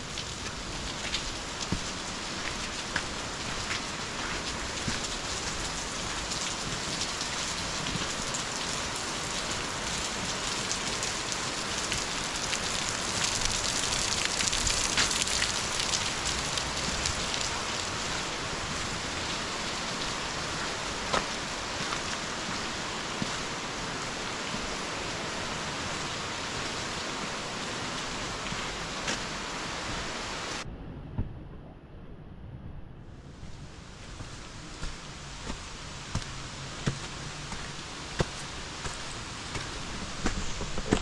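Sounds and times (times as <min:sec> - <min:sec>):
falling water splashing: 0:00.0 - 0:30.6, 0:33.8 - 0:41.0.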